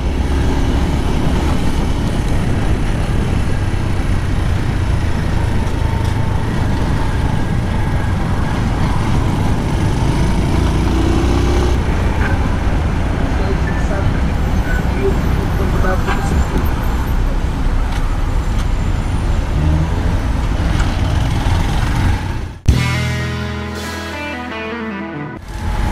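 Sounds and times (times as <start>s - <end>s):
road noise: 0.0s - 25.9s.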